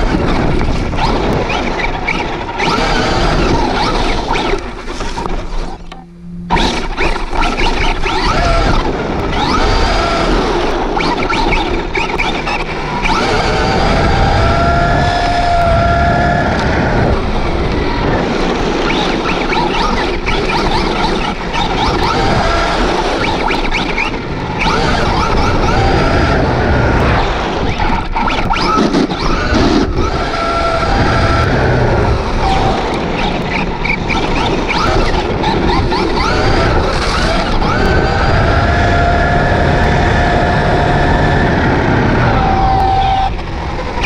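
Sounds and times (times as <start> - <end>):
electric motor whining: 0.0 - 44.0
tyre and wind noise: 0.0 - 44.0.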